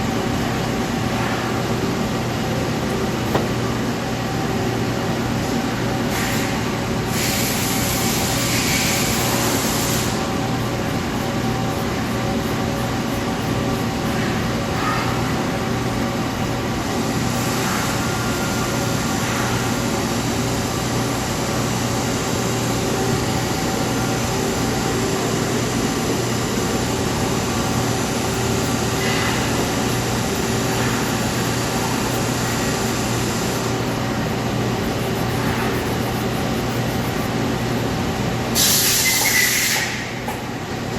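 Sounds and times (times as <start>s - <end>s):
lathe mechanical hum: 0.0s - 40.9s.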